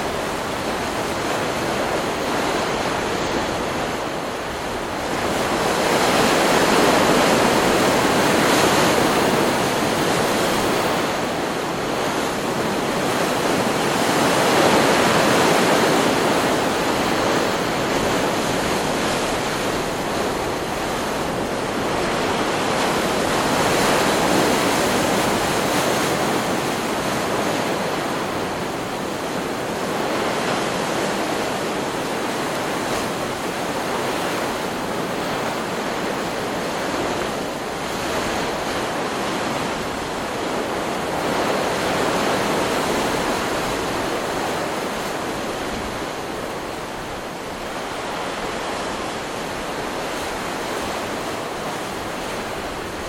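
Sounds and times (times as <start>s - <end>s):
waves breaking on a beach: 0.0s - 53.0s.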